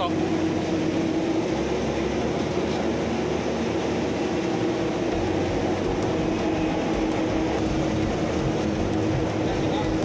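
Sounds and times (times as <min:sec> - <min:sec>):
machinery drone: 0:00.0 - 0:10.0.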